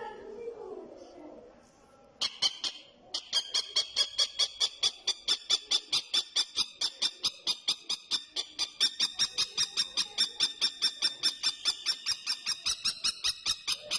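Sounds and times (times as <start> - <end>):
kestrel calling kee-kee-kee: 2.2 - 13.9.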